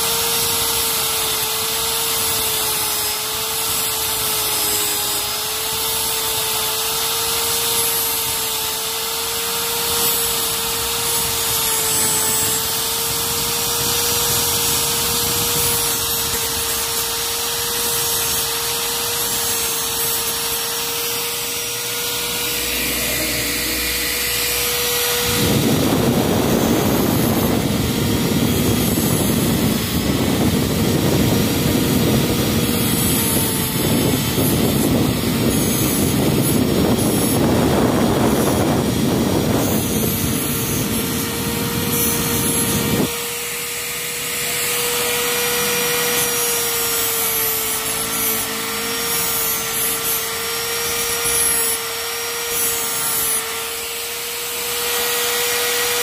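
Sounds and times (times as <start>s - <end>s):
grinder motor whine: 0.0s - 56.0s
rough metal grinding: 0.0s - 56.0s.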